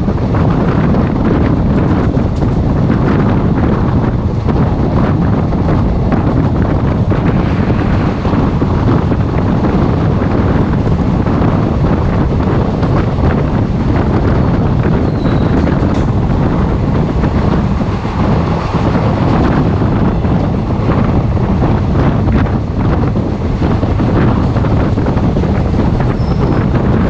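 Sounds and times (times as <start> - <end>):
train rumbling on track: 0.0 - 27.0
wind rushing over microphone: 0.0 - 27.0.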